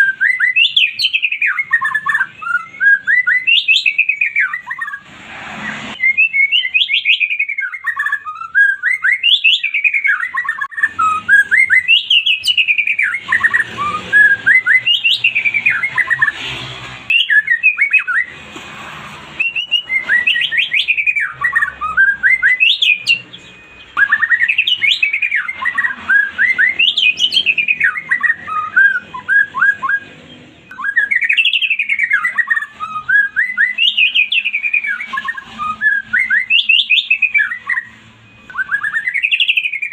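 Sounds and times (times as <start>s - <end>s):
bird singing whistled phrases: 0.0s - 5.0s, 5.7s - 16.4s, 17.1s - 18.4s, 19.3s - 39.9s.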